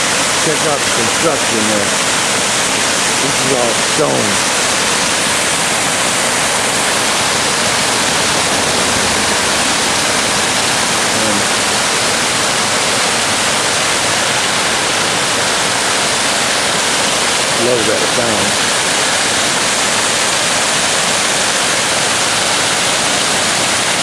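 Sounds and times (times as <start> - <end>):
water rushing over spillway: 0.0 - 24.0.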